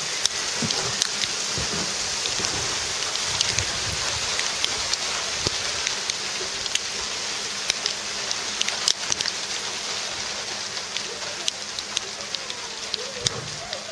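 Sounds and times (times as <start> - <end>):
hail hissing and ticking: 0.0 - 13.9.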